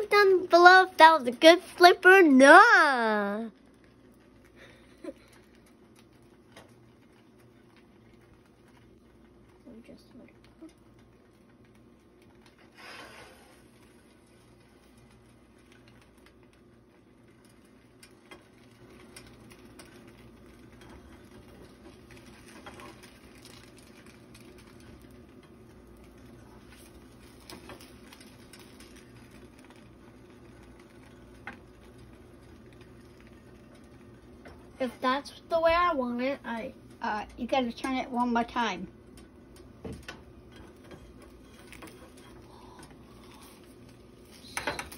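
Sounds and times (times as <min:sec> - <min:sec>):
sandwich sizzling in butter: 0:00.0 - 0:44.9.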